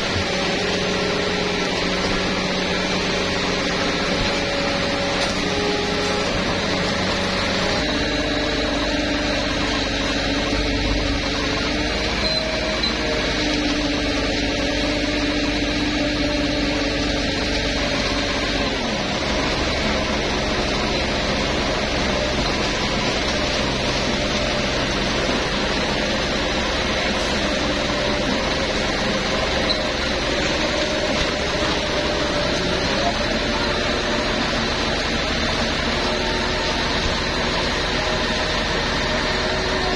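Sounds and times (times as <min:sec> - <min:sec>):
diesel engines and hydraulics: 0:00.0 - 0:39.9.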